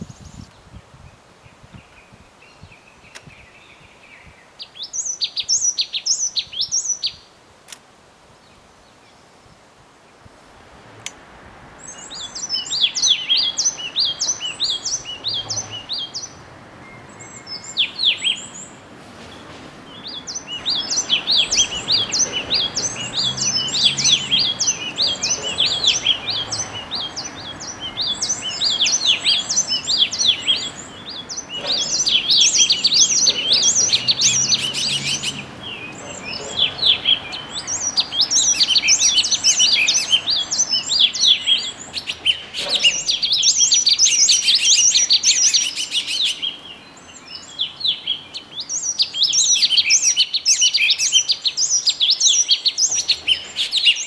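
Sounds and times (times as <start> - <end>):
small songbirds chirping: 0.0 - 7.4, 11.8 - 54.0.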